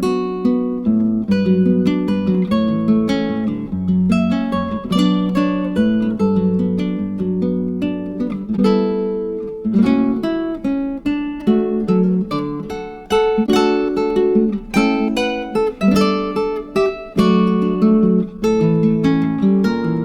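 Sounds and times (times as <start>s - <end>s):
acoustic guitar plucking and strumming: 0.0s - 20.0s.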